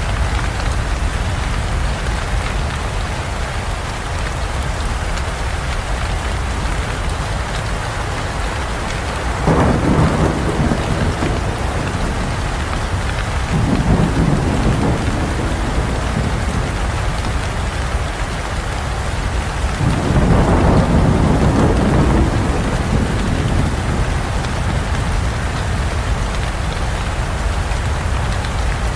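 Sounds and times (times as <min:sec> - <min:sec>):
heavy rain: 0:00.0 - 0:28.9
thunder rumbling: 0:05.0 - 0:28.9.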